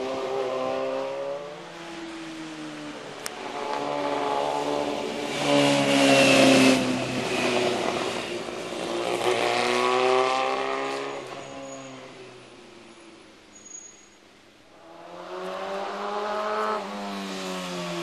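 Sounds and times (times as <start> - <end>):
motorcycle revving past: 0.0 - 12.0, 14.8 - 18.0.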